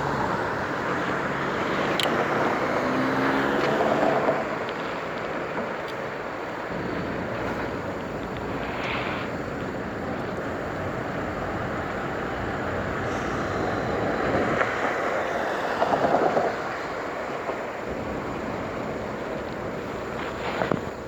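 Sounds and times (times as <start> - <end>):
bicycle road noise: 0.0 - 21.0
rushing wind: 0.0 - 21.0.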